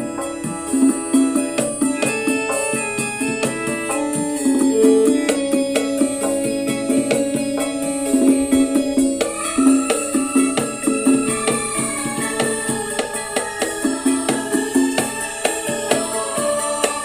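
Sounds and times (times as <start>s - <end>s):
keyboard melody over clicking beat: 0.0s - 17.0s.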